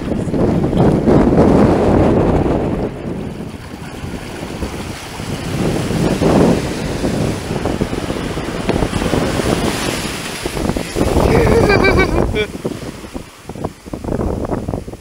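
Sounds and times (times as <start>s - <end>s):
ocean surf washing up beach: 0.0s - 15.0s
wind buffeting microphone: 0.0s - 15.0s.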